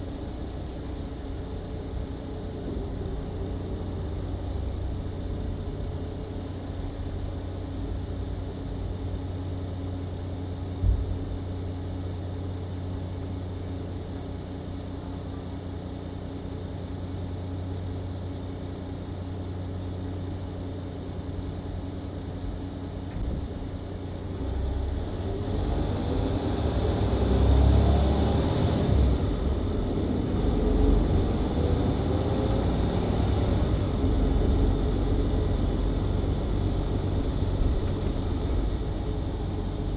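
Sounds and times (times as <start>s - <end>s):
bus engine idling and revving: 0.0s - 39.9s.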